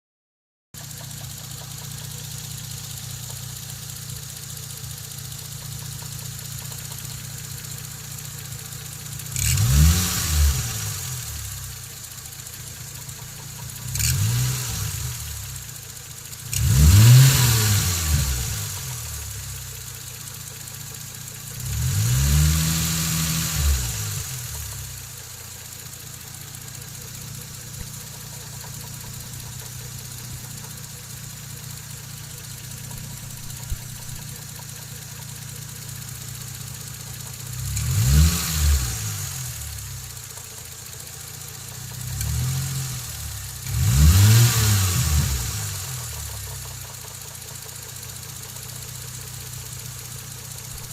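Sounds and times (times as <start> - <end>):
car engine idling and revving: 0.8 - 50.9
engine knocking: 0.8 - 50.9.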